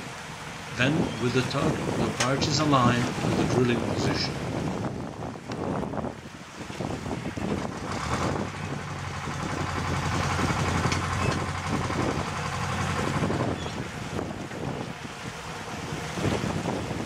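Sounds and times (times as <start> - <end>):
small waves lapping: 0.0 - 17.0
tugboat engine humming: 0.0 - 17.0
wind: 0.0 - 17.0.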